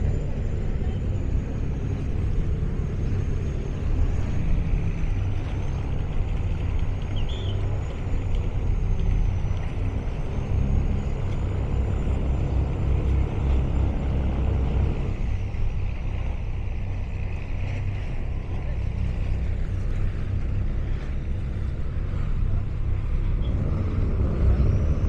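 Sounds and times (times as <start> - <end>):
diesel engine rumble: 0.0 - 25.0.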